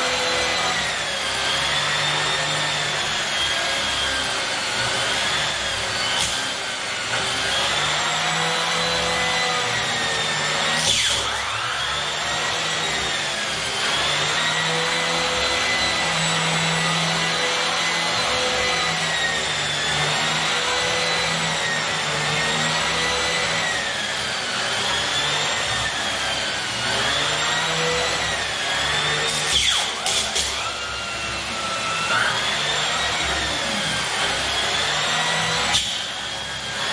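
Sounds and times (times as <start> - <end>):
vacuum cleaner on carpet: 0.0 - 36.9.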